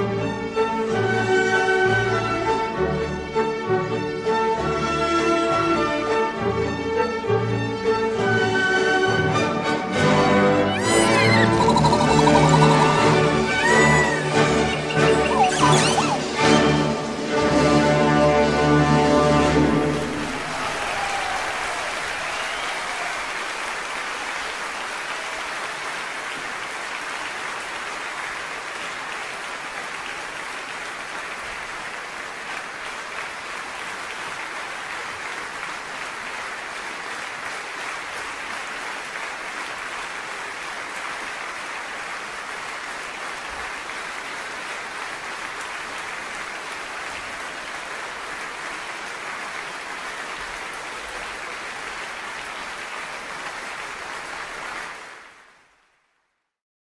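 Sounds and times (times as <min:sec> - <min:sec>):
audience applause: 0:08.2 - 0:18.3, 0:19.0 - 0:55.8.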